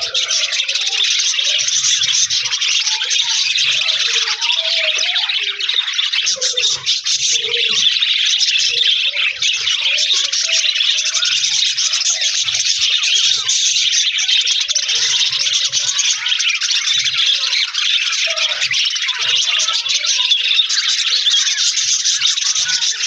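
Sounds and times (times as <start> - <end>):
budgerigars chattering and warbling: 0.0 - 23.0.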